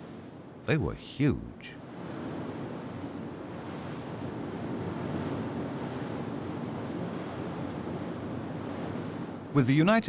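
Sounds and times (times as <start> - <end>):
sea rushing: 0.1 - 10.0.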